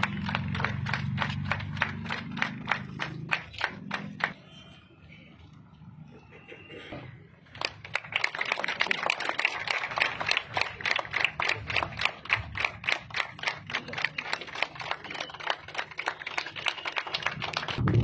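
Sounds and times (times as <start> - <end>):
people clapping in rhythm: 0.0 - 4.4, 7.5 - 18.0.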